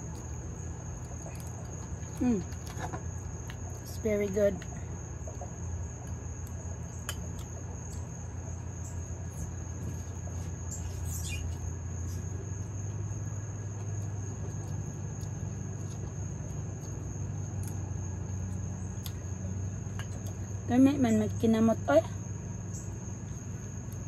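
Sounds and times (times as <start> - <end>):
insects trilling: 0.0 - 24.0
steady low hum: 0.0 - 24.0.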